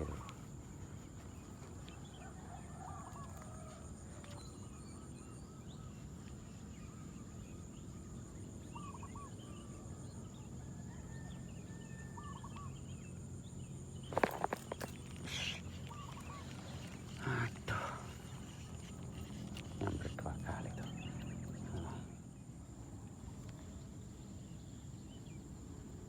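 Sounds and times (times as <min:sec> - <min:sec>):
birds calling: 0:00.0 - 0:09.9, 0:12.1 - 0:25.4
steady background hum: 0:00.0 - 0:26.0.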